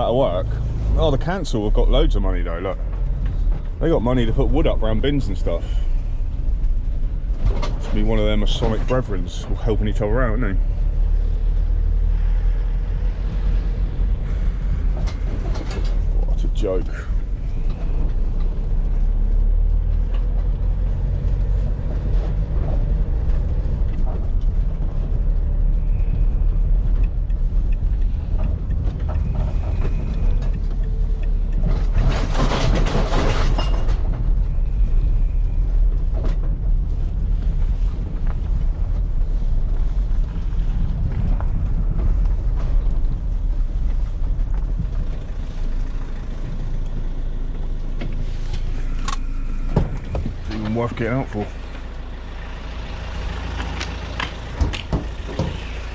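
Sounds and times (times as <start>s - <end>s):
vehicle engine and road noise: 0.0s - 55.9s.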